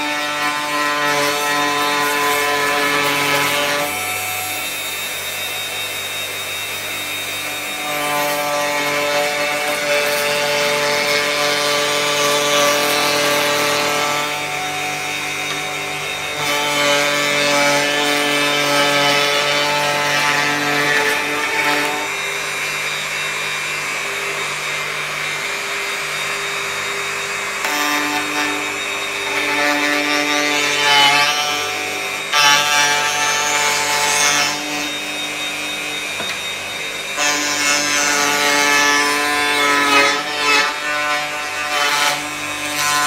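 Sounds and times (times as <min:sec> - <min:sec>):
electric hand planer cutting wood: 0:00.0 - 0:43.0.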